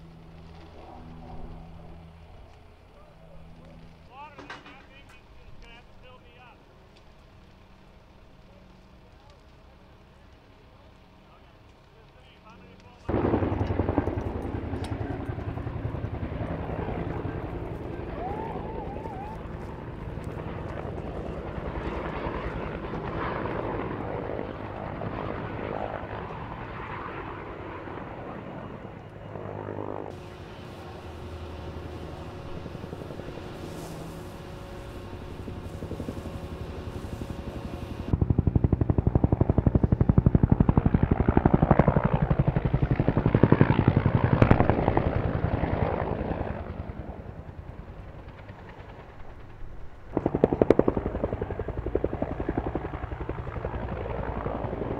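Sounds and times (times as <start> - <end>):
helicopter rotor chopping: 0.0 - 54.9.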